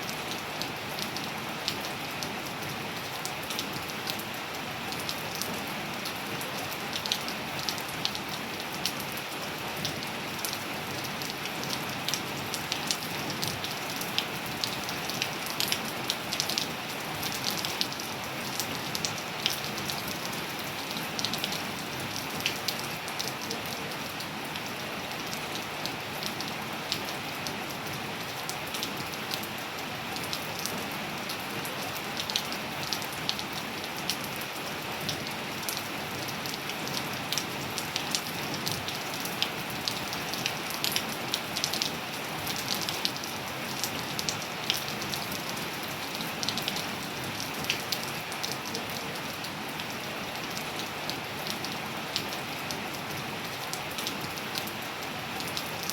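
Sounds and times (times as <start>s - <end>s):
rain on hard and leafy surfaces: 0.0s - 55.9s.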